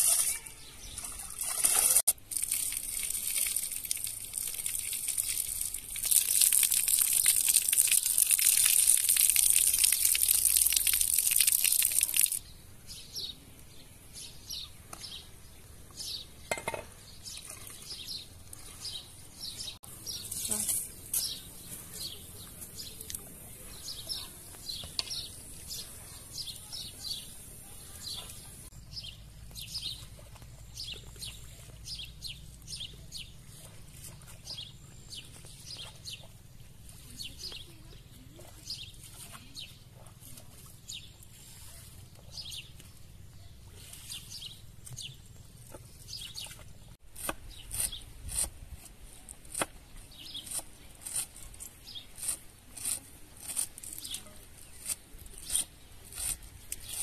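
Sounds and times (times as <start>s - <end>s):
small birds chirping: 0.0s - 48.4s, 49.0s - 57.0s.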